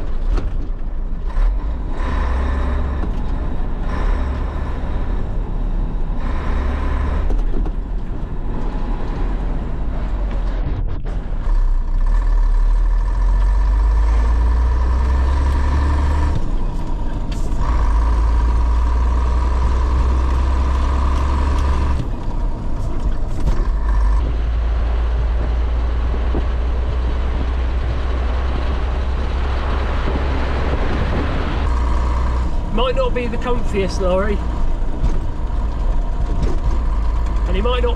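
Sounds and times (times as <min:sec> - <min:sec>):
diesel lorry engine rumbling: 0:00.0 - 0:37.9.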